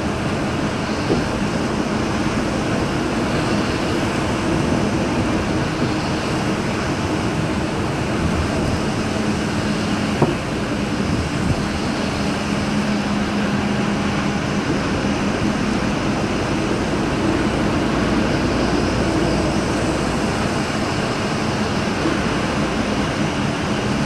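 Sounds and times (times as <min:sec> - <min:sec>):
low engine hum: 0:00.0 - 0:24.0
tyres hissing on wet road: 0:00.0 - 0:24.0.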